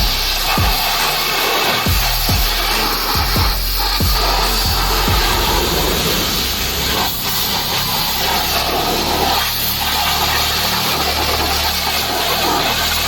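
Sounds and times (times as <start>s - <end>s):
pressure washer motor hum: 0.0s - 13.0s
water spray hissing: 0.0s - 13.0s.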